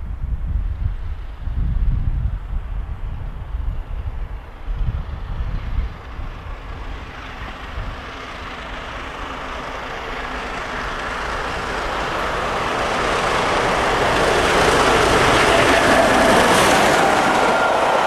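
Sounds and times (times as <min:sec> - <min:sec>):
steam locomotive approaching: 0:00.1 - 0:18.0.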